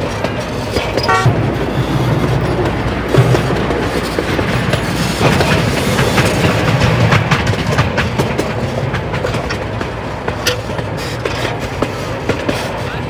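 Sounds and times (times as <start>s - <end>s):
wheel clicks and knocks: 0.0s - 12.7s
small train car rumbling on track: 0.0s - 13.0s.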